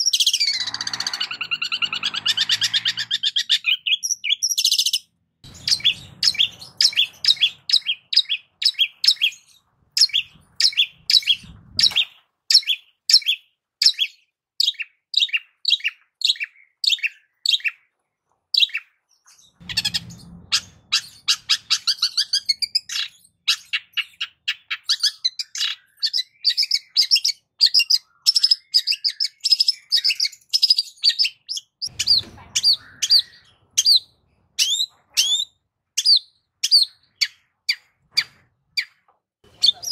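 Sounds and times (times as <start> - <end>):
bird chattering song: 0.0 - 17.9, 18.5 - 39.9.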